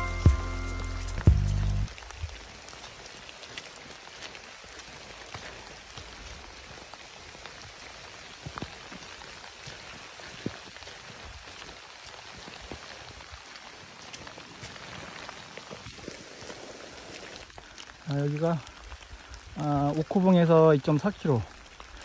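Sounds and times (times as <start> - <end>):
rain falling in woodland: 0.0 - 22.0.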